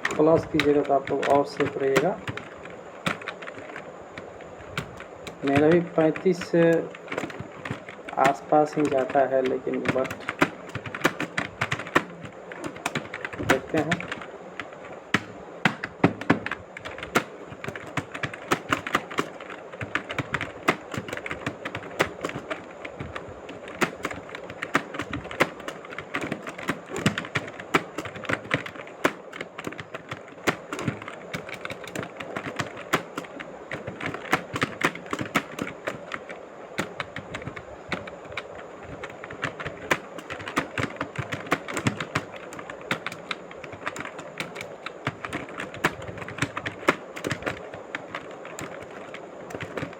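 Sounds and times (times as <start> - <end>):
rapid keyboard typing: 0.0 - 49.9.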